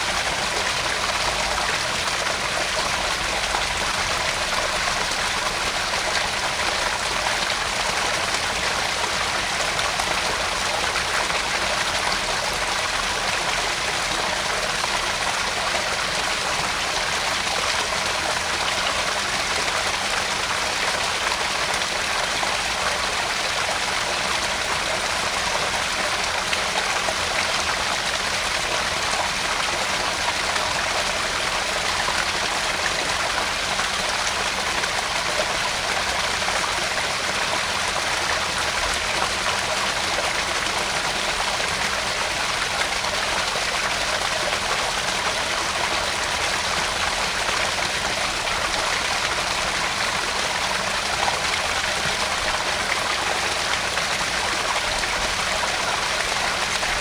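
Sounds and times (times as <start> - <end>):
water splashing into pond: 0.0 - 57.0.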